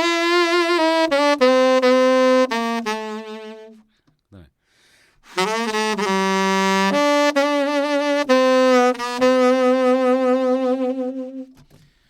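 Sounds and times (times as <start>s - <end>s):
saxophone playing slow notes: 0.0s - 4.0s, 5.2s - 11.7s.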